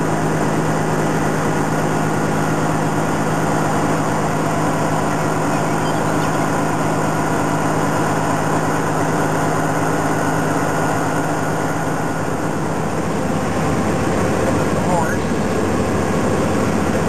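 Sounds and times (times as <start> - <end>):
diesel truck engine humming: 0.0 - 17.0
road noise: 0.0 - 17.0.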